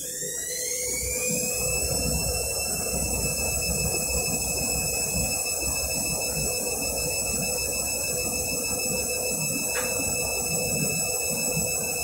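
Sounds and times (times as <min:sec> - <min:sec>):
washing machine motor whine: 0:00.0 - 0:12.0.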